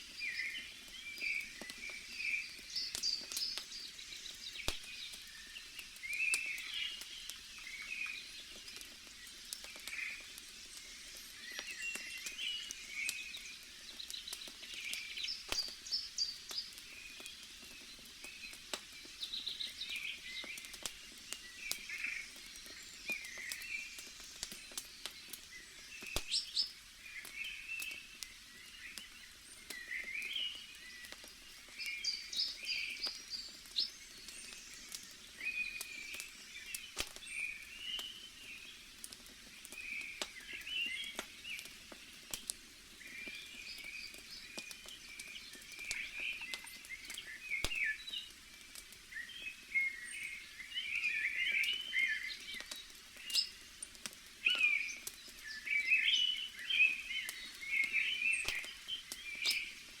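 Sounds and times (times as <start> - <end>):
campfire crackles: 0.0 - 60.0
small birds chirping: 0.0 - 60.0.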